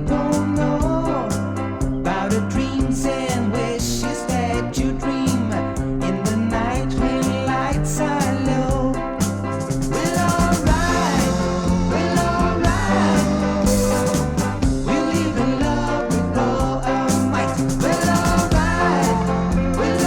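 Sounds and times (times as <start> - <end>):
pop song from vinyl record: 0.0 - 20.0.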